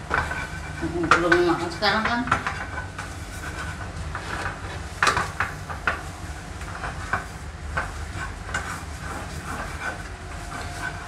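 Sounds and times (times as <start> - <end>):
spatula clacking and scraping pan: 0.0 - 11.0
steady low hum: 0.0 - 11.0.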